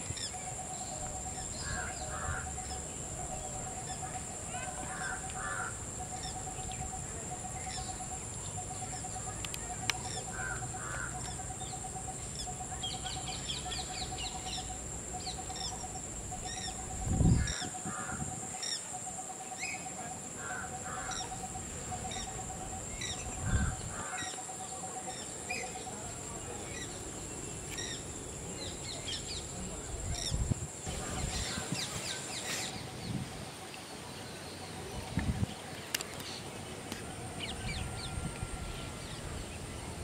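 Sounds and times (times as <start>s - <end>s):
birds piping: 0.0s - 39.7s
birds chirping: 0.0s - 40.0s
high insect drone: 0.0s - 40.0s.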